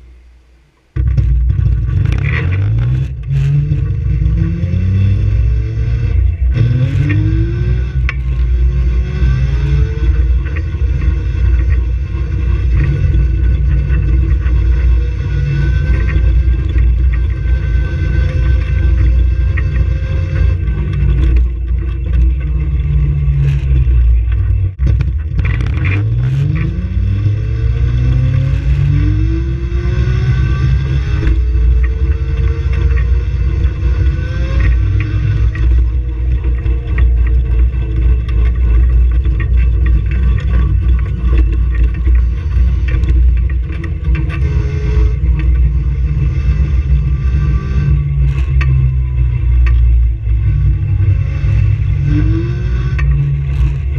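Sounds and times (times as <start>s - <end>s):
road and wind noise: 0.0s - 53.9s
knocks and rattles: 0.9s - 4.8s, 9.6s - 27.1s, 31.2s - 53.9s.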